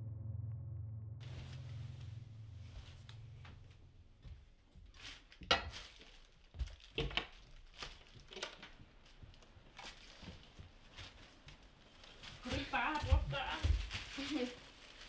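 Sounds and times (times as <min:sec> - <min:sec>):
rustling and light knocks: 0:01.2 - 0:15.0.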